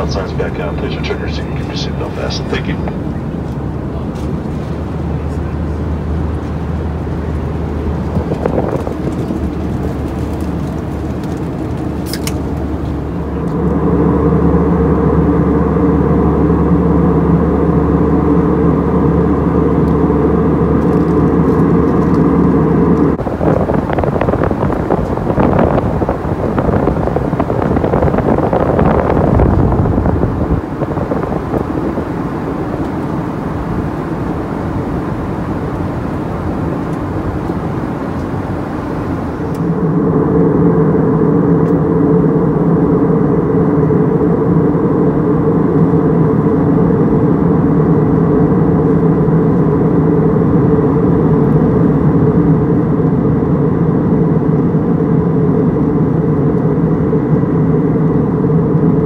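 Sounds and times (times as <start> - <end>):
aircraft cabin airflow and engine: 0.0 - 59.0
low engine humming tones: 0.0 - 59.0.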